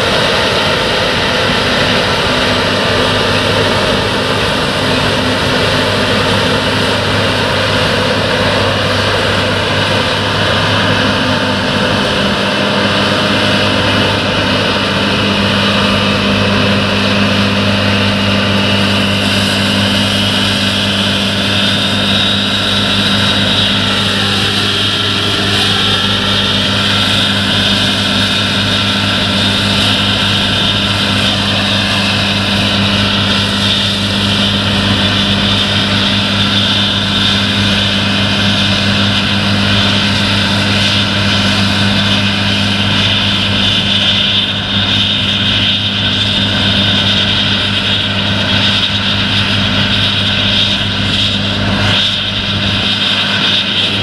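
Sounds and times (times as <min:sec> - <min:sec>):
combine harvester engine droning: 0:00.0 - 0:54.0.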